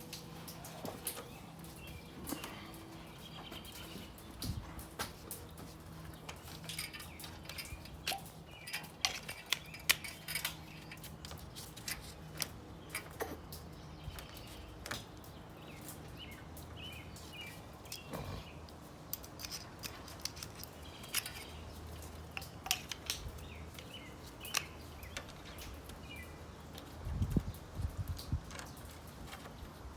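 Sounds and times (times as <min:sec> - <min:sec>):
birds chirping: 0:00.0 - 0:29.7
metallic clicks and scrapes on screws: 0:00.1 - 0:15.3, 0:17.2 - 0:27.4, 0:28.2 - 0:29.6.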